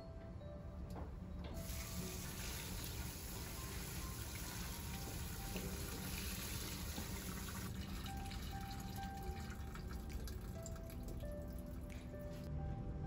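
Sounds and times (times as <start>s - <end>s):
tap water running onto leaves: 1.6s - 12.2s.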